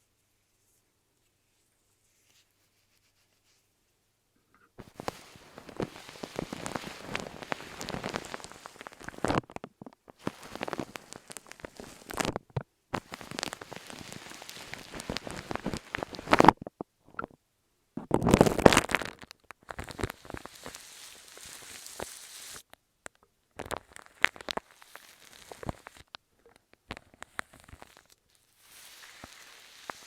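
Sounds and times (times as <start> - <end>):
crackling and squishing: 4.4 - 17.4, 18.0 - 30.0.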